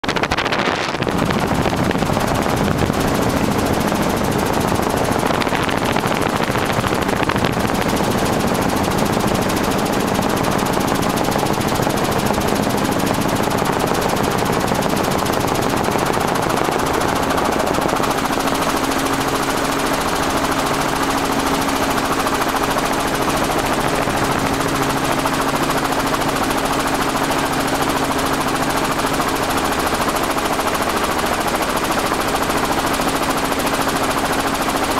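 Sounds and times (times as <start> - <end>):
helicopter engine and rotor noise: 0.0 - 34.9.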